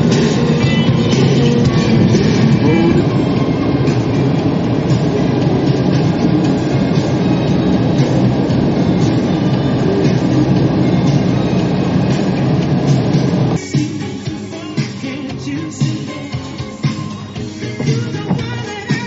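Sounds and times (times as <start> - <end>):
road and wind rumble in car: 0.0 - 19.0.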